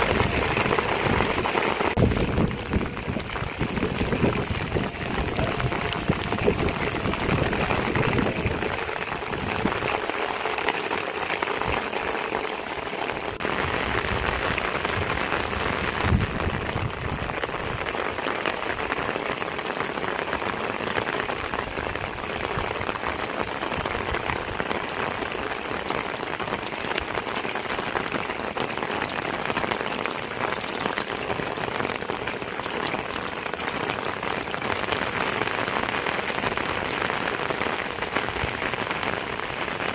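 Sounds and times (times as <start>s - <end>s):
heavy rain on roofs and ground: 0.0s - 39.9s.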